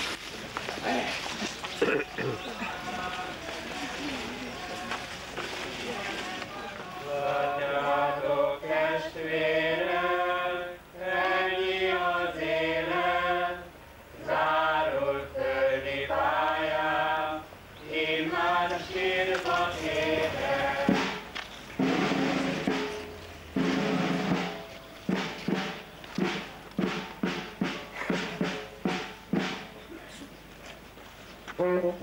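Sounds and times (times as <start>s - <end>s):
group singing a slow hymn: 0.8s - 29.6s.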